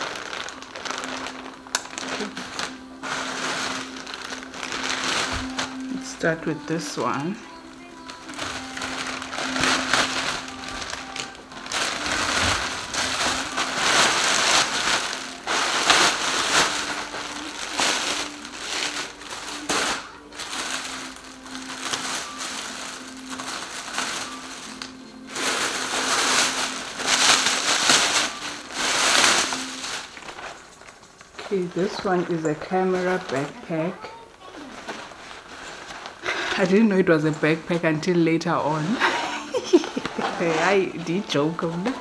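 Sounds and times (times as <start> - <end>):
packaging crinkling and rustling: 0.0 - 42.0.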